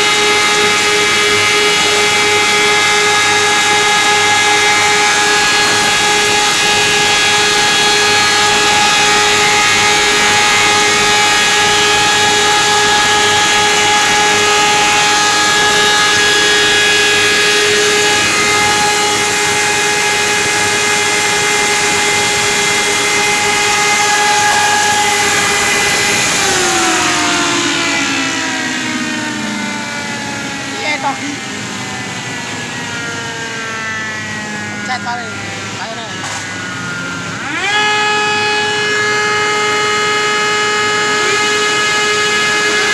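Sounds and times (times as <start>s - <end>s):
wood moulder machine whining: 0.0s - 42.9s.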